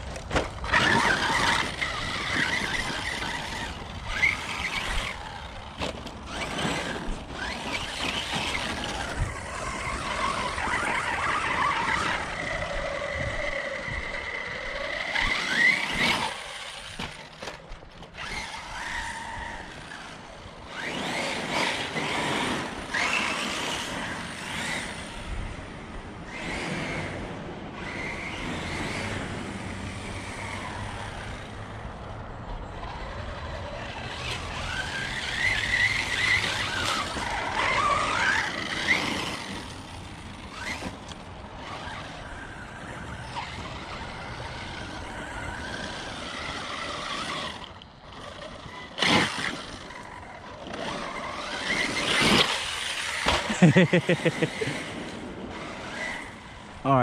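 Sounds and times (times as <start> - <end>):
electric motor whining: 0.0 - 31.9, 32.5 - 56.9
tyres on rough ground: 0.0 - 57.0.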